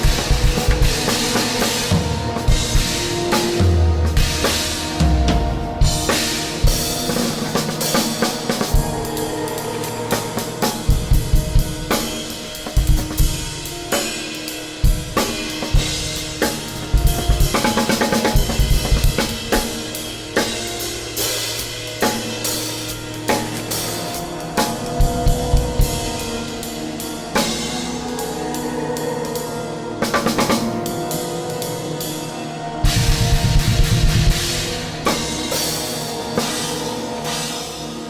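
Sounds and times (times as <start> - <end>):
drum kit playing: 0.0 - 26.8, 32.8 - 38.0
droning tones: 0.0 - 38.0.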